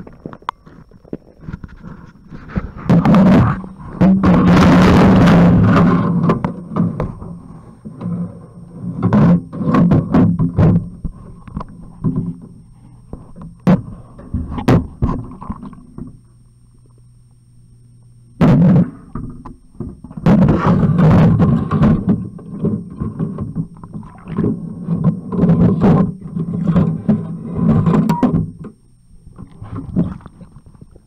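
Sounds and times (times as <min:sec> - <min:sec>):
muffled water sloshing: 0:00.0 - 0:31.0.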